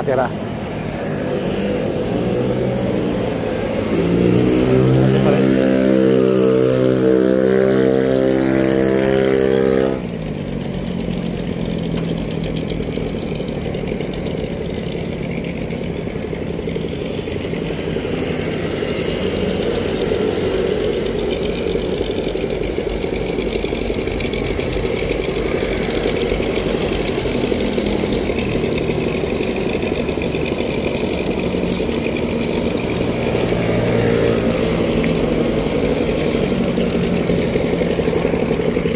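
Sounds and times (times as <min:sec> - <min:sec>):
engine rumbling: 0:00.0 - 0:38.9
pitched drone: 0:00.0 - 0:38.9.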